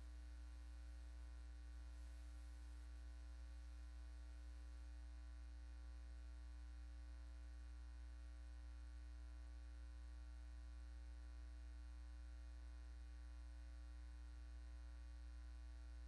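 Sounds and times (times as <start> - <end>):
low electrical mains hum: 0.0 - 16.0.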